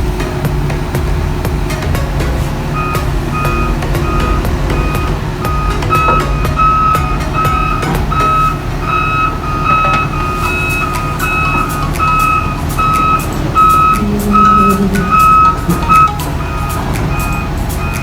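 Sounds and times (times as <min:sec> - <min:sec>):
diesel engine running: 0:00.0 - 0:18.0
metal clanks: 0:00.0 - 0:18.0
excavator travel alarm beeping: 0:00.9 - 0:18.0.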